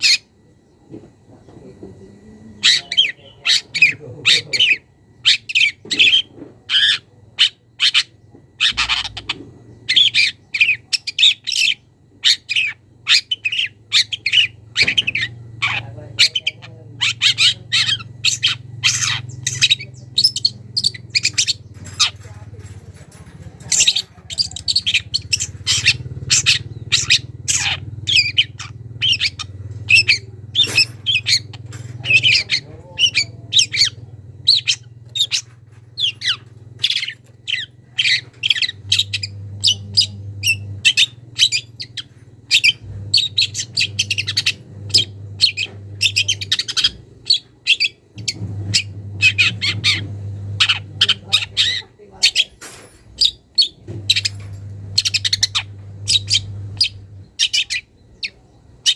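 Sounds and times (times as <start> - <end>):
bird chirping and squawking: 0.0 - 0.4, 2.6 - 58.9
low hum: 0.0 - 51.8, 52.9 - 58.9.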